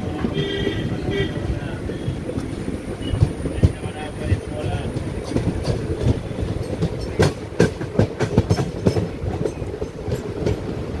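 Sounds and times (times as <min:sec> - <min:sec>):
train wheels rumbling: 0:00.0 - 0:11.0
wheels clacking over rail joints: 0:00.0 - 0:11.0.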